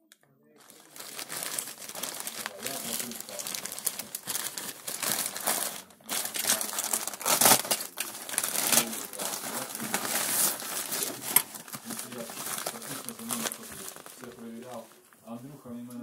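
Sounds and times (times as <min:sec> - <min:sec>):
plastic mailer bag crinkling: 0:00.6 - 0:15.1.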